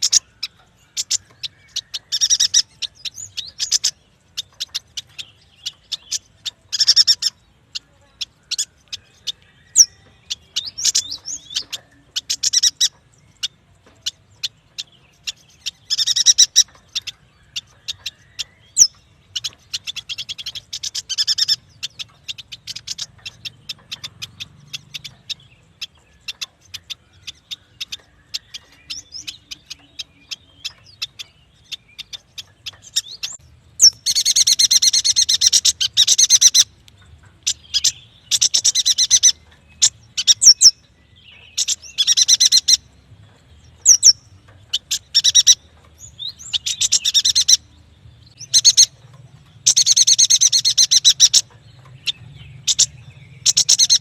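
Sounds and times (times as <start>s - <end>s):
bird singing high chips and chatter: 0.0s - 54.0s.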